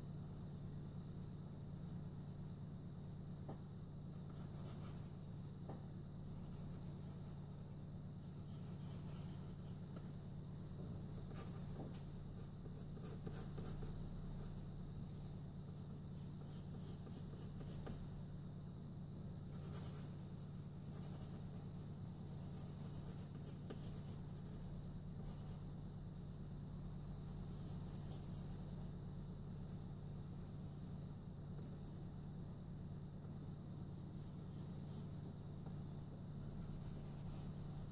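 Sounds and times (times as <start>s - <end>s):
steady low hum: 0.0s - 37.9s
pencil scratching on paper: 4.0s - 5.5s, 6.2s - 18.1s, 19.2s - 26.4s, 27.0s - 32.2s, 33.3s - 37.9s.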